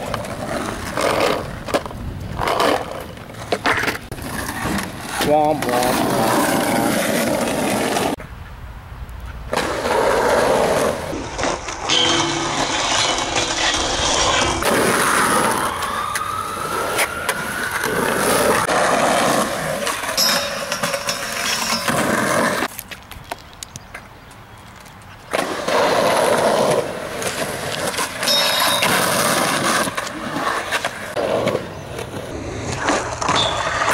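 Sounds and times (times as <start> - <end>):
skateboard wheels rolling on concrete: 0.0 - 33.9.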